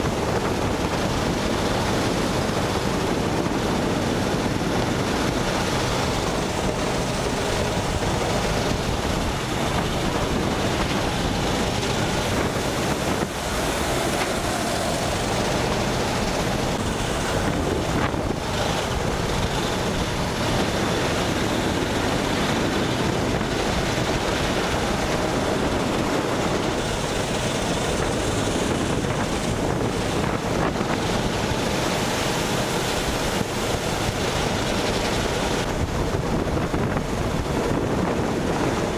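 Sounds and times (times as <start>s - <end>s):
go-kart engine drone: 0.0s - 38.9s
wind noise on microphone: 0.0s - 38.9s.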